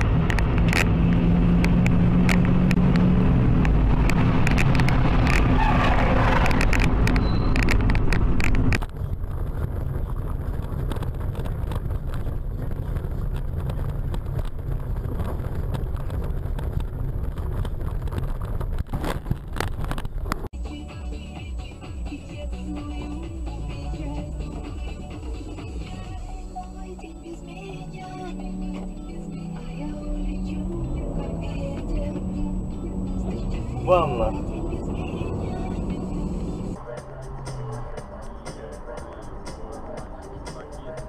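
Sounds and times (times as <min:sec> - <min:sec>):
car engine hum: 0:00.0 - 0:41.0
road noise: 0:00.0 - 0:41.0.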